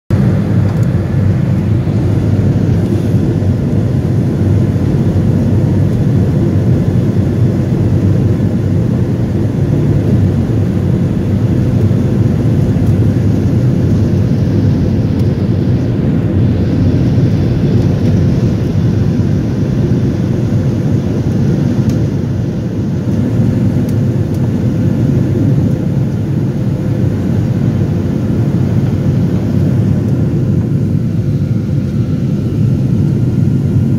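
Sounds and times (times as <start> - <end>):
jet engines rumbling: 0.1 - 33.9.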